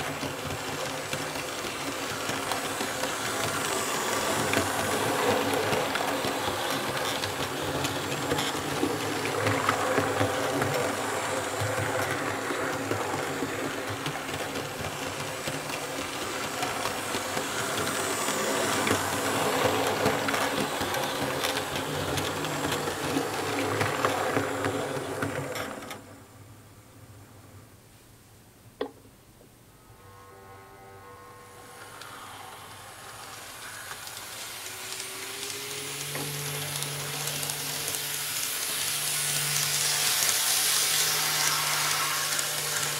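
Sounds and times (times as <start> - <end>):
model train motor hum: 0.0 - 26.0, 29.9 - 42.9
wheels clicking on rails: 0.0 - 26.2, 31.6 - 42.9.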